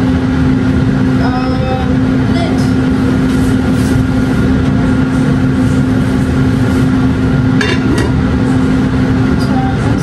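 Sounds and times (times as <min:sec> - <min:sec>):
exhaust fan humming: 0:00.0 - 0:10.0.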